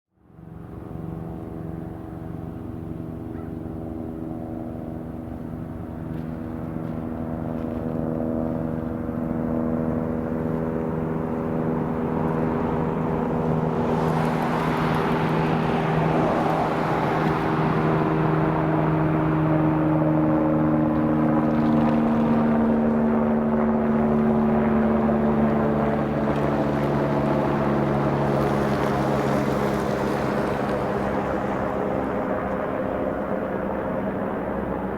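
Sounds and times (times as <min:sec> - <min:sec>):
propeller plane engine droning: 0:00.1 - 0:34.9.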